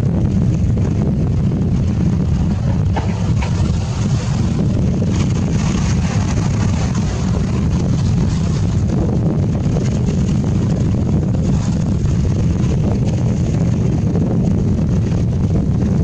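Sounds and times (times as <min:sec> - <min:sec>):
fishing boat at sea: 0:00.0 - 0:16.0
wind buffeting microphone: 0:00.0 - 0:16.0.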